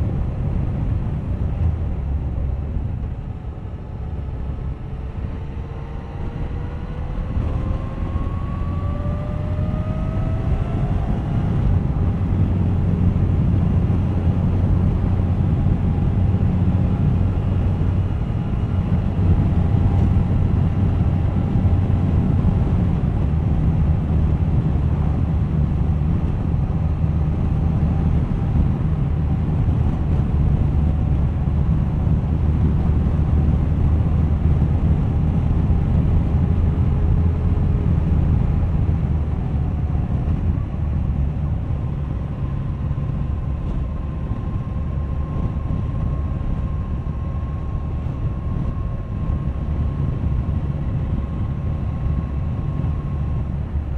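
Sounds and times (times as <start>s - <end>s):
motorcycle engine accelerating: 4.2s - 53.9s.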